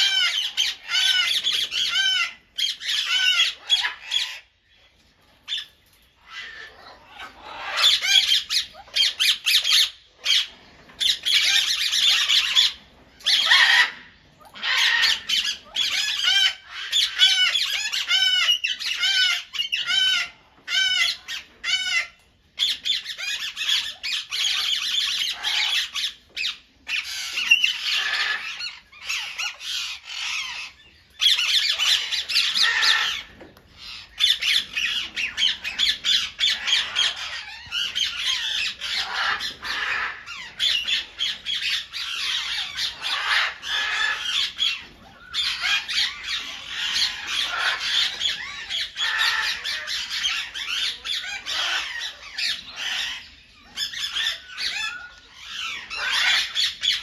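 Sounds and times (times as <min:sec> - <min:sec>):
parakeets squawking: 0:00.0 - 0:57.0.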